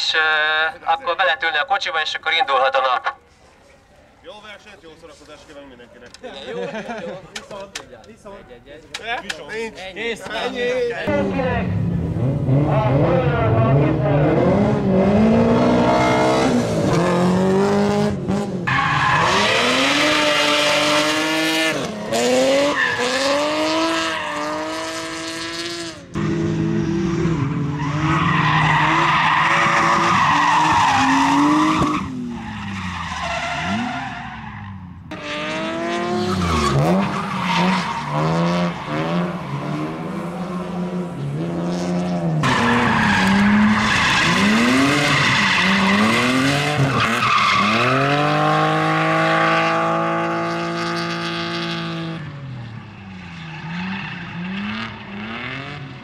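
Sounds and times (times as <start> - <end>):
car engines revving hard: 11.0 - 56.0.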